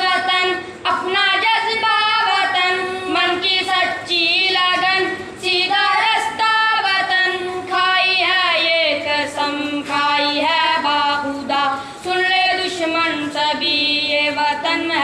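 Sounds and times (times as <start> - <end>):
boys singing together: 0.0 - 15.0.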